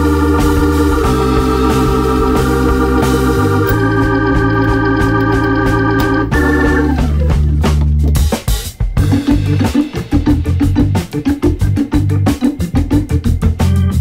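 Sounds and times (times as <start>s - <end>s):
music with held chords and bass: 0.0s - 14.0s.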